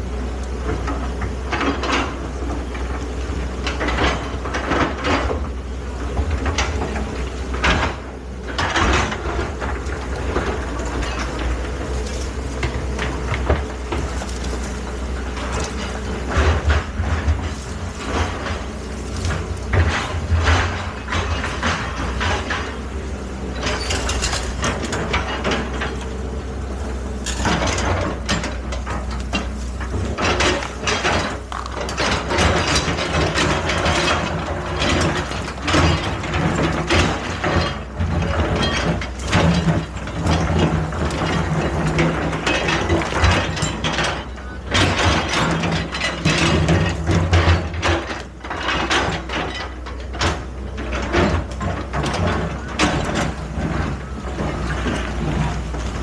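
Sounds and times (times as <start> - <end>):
excavator engine running: 0.0 - 56.0
metal clanks and scraping: 0.7 - 56.0.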